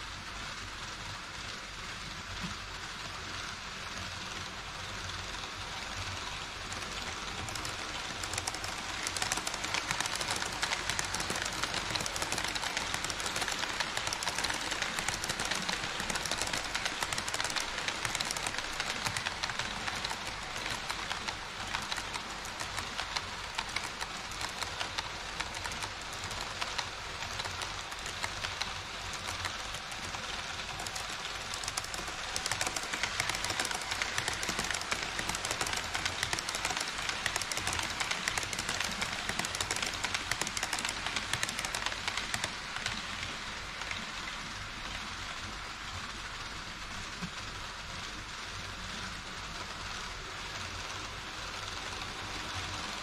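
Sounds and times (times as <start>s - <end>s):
model trains rumbling and clicking: 0.0s - 53.0s.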